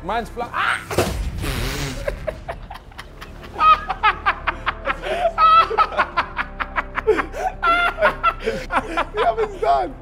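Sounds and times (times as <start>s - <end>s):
man laughing loudly: 1.8s - 9.9s.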